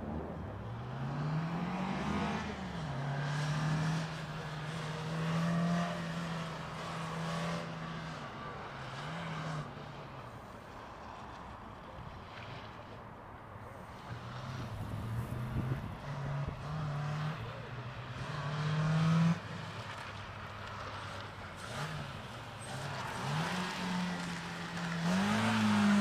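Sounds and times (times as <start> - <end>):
car engine accelerating: 0.0 - 12.9, 13.6 - 26.0.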